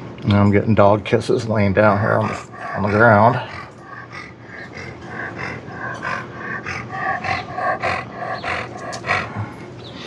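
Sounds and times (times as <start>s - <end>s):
dog panting and licking: 1.5s - 10.0s.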